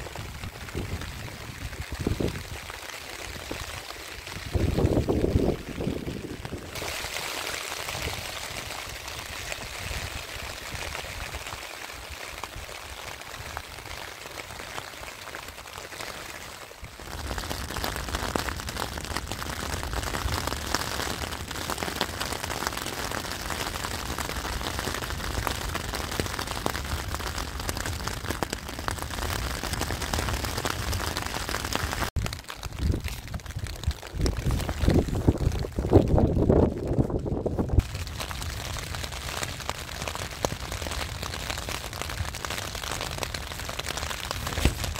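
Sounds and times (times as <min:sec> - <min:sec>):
rain pattering on a tent: 0:00.0 - 0:44.9.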